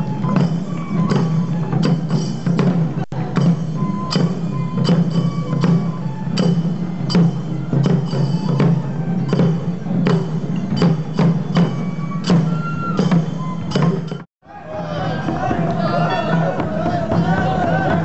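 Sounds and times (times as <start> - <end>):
bamboo flutes playing: 0.0 - 18.0
taiko drum strikes: 1.8 - 14.2, 15.2 - 18.0.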